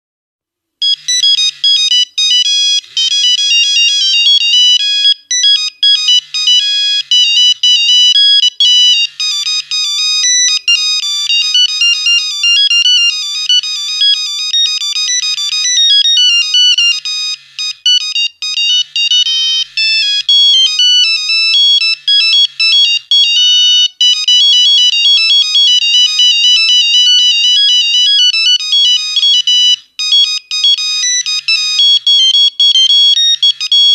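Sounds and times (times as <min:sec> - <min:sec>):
monophonic phone ringtone beeps: 0:00.8 - 0:33.9.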